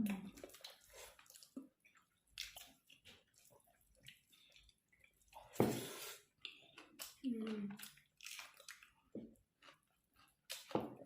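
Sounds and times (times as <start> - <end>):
chewing and mouth smacks: 0.1 - 5.6, 6.3 - 11.0.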